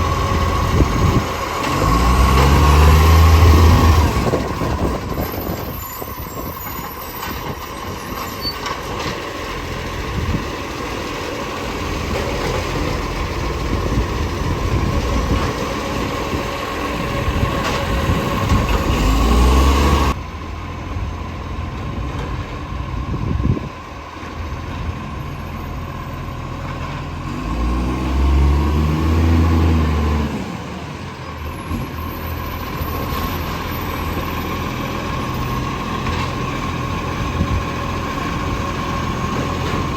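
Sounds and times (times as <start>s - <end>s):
garbage truck engine revving: 0.0s - 23.2s, 26.4s - 39.9s.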